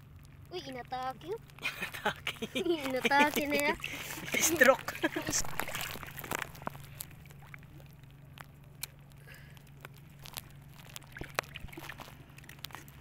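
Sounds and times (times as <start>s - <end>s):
light squelches: 0.0s - 13.0s
low steady hum: 0.0s - 13.0s.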